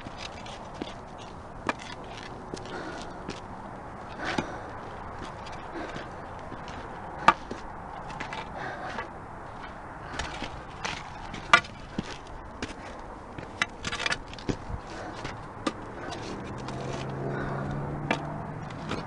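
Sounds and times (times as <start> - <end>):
boots on stone and gravel: 0.0 - 19.0.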